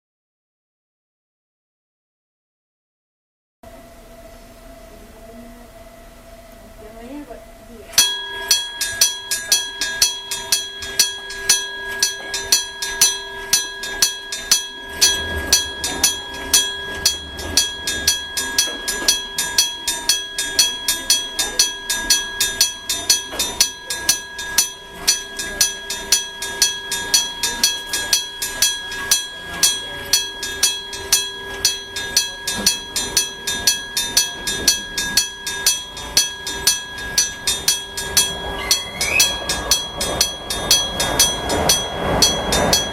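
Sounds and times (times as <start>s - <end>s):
level crossing warning gong striking: 3.7s - 42.9s.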